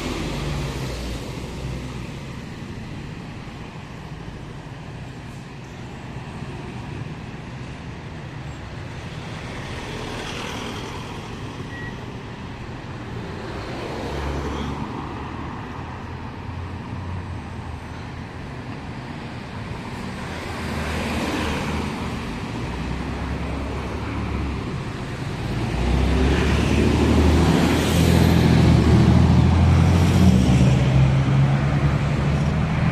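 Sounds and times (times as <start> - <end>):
bus and cars driving by: 0.0 - 32.9.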